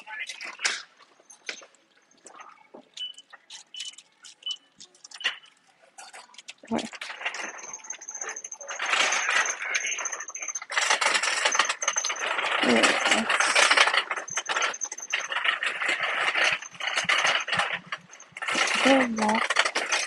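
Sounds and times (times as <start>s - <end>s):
shopping cart rattling on tiles: 0.4s - 20.0s.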